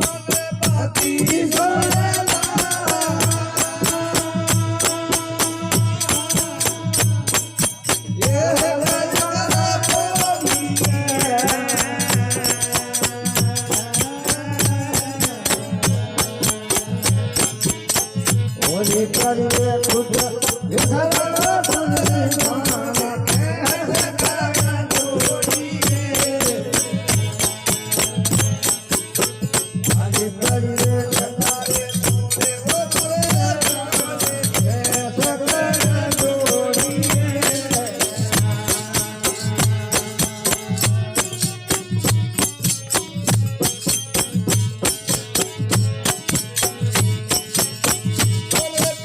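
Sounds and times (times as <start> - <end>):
jingling percussion rhythm: 0.0 - 49.0.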